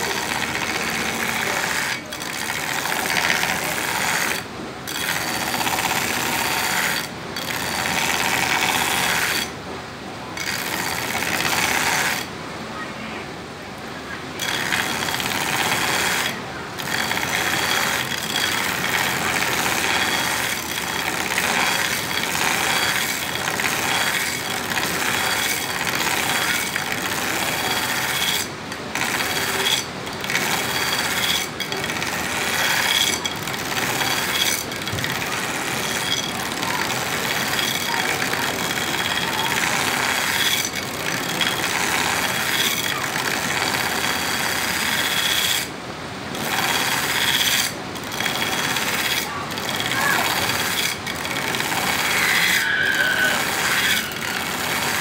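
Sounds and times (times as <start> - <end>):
knife grinding on belt grinder: 0.0 - 9.6, 10.4 - 12.3, 14.4 - 55.0.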